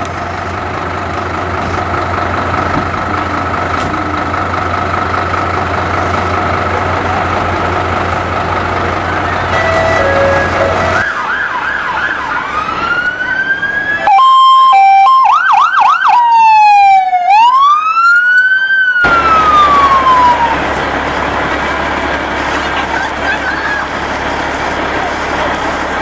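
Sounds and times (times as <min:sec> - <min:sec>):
fire engine siren: 0:01.6 - 0:26.0.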